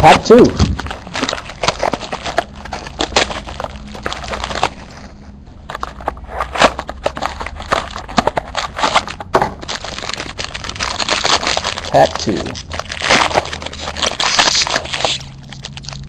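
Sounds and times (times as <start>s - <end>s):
card pack packaging crinkling: 0.0s - 16.0s.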